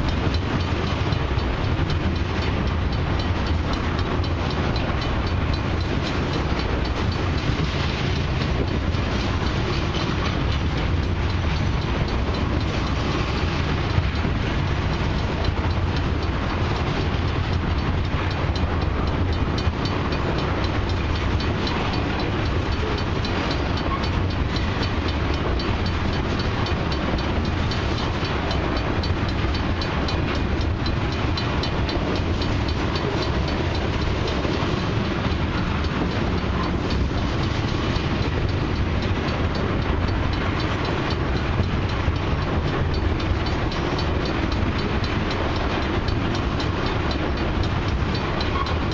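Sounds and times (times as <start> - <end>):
train wheels rumbling on rail: 0.0 - 48.9
wheels clicking on rail: 0.0 - 48.9.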